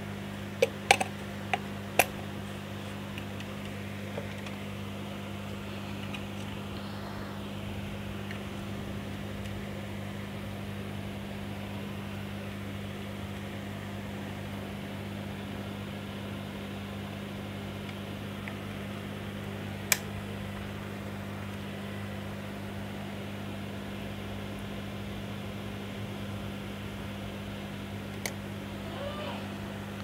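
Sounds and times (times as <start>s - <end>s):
workbench equipment humming: 0.0s - 30.0s.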